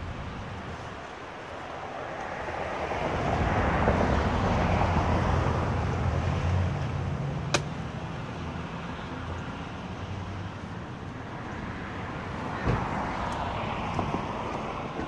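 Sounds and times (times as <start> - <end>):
vehicle passing: 1.5 - 15.0.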